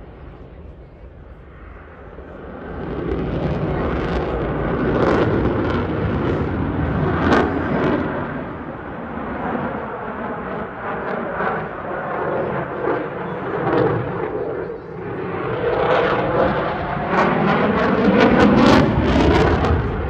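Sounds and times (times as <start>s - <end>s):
fighter jet engines roaring: 0.0s - 20.0s.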